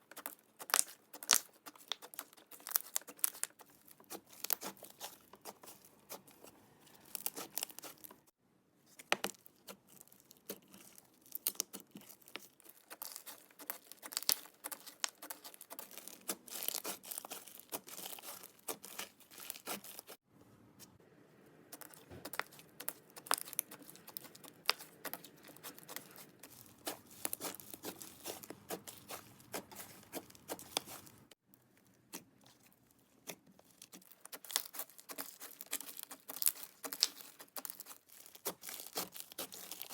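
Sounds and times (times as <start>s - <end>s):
slime crackling and popping: 0.1s - 8.2s, 9.2s - 20.2s, 21.7s - 31.4s, 33.2s - 39.9s.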